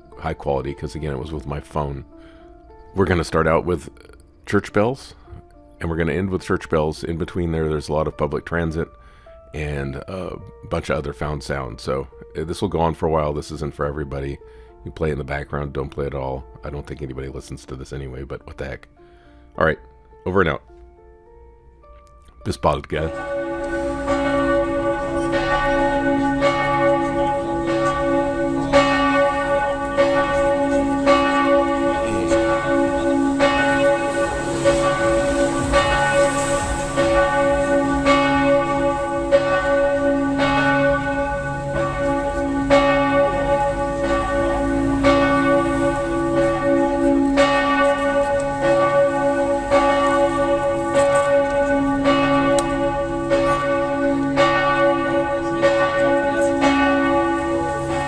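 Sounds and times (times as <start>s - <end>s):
church bells pealing: 0.0s - 21.4s, 22.4s - 58.0s.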